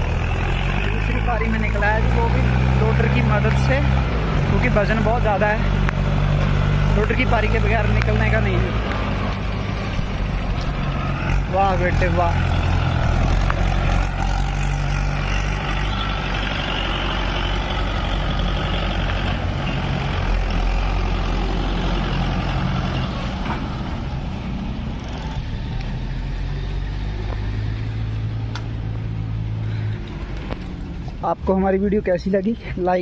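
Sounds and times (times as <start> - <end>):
tractor diesel engine under load: 0.0 - 33.0
tyre and road noise: 0.0 - 33.0.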